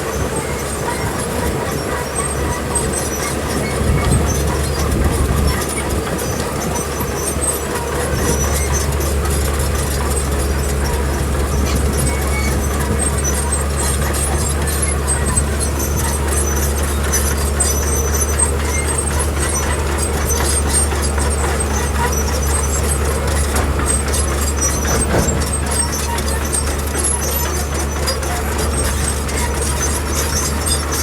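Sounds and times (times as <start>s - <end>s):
bulldozer diesel engine droning: 0.0s - 31.0s.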